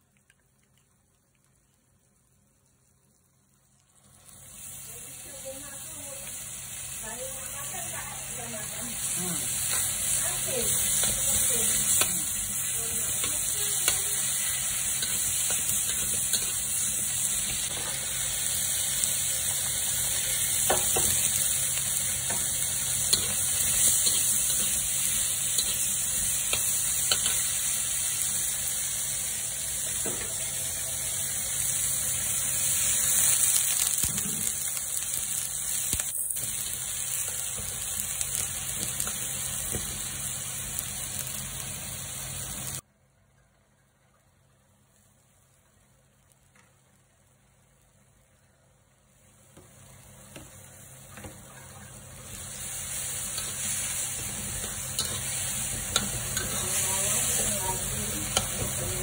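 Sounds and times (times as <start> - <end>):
food sizzling in a wok: 1.8 - 42.9, 44.3 - 59.0.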